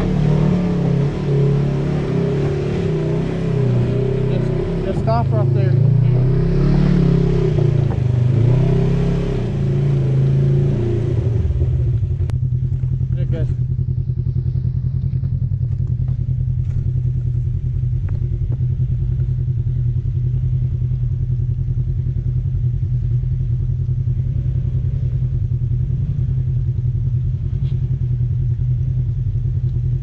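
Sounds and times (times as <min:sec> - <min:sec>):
engine idling: 0:00.0 - 0:08.6, 0:09.5 - 0:30.0.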